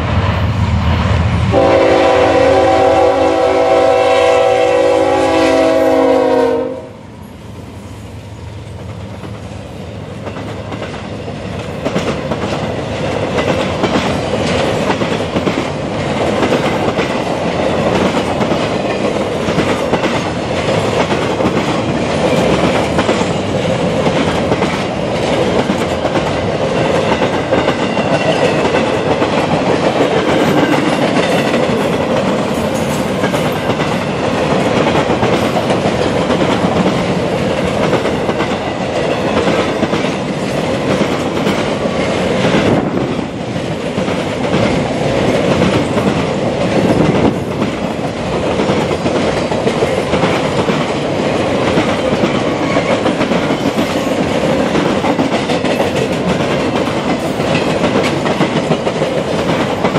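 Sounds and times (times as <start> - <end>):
train railcars rumbling past: 0.0 - 59.9.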